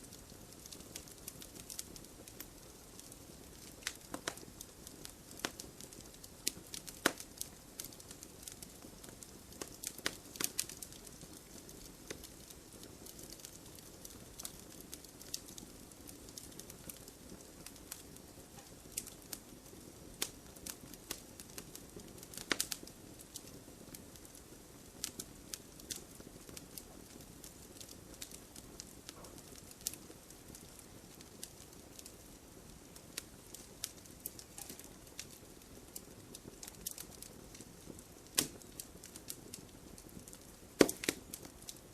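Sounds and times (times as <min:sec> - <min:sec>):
fire crackling and popping: 0:00.0 - 0:41.9
wood fire hissing: 0:00.0 - 0:41.9.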